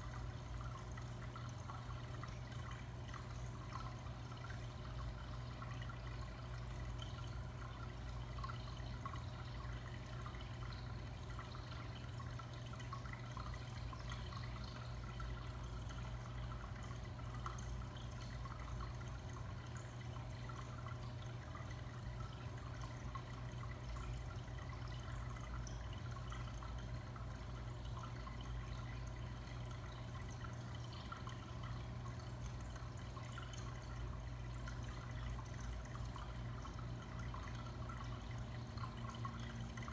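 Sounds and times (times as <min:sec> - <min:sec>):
low steady hum: 0:00.0 - 0:39.9
water trickling and dripping: 0:00.0 - 0:39.9.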